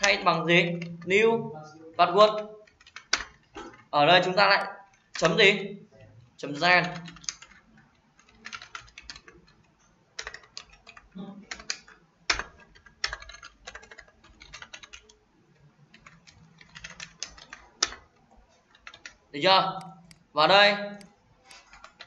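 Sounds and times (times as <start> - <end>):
computer keyboard typing: 0.0 - 22.0.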